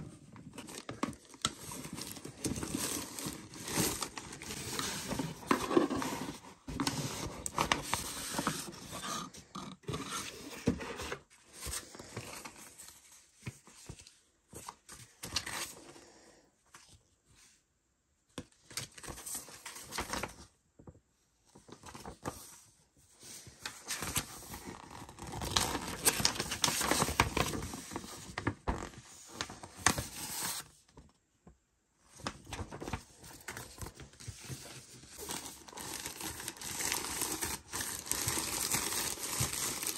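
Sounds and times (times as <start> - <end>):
cardboard and paper rustling: 0.0 - 16.0, 21.5 - 31.1, 32.0 - 39.9.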